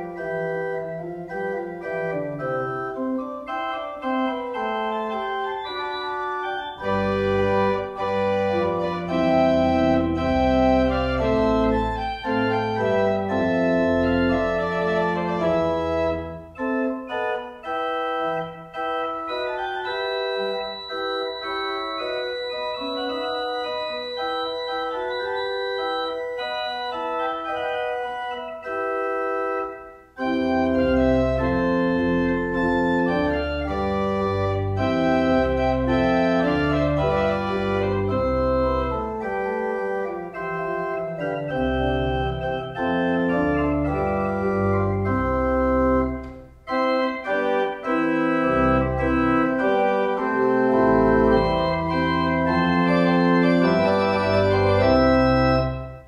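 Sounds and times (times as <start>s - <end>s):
deep organ bass notes: 0.0s - 56.0s
organ music: 0.0s - 56.0s.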